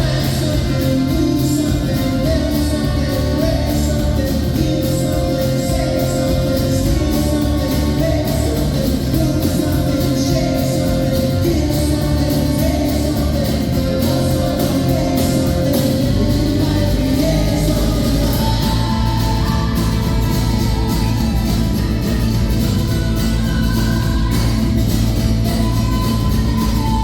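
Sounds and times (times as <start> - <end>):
guitars playing: 0.0 - 27.0
person singing: 0.0 - 27.0.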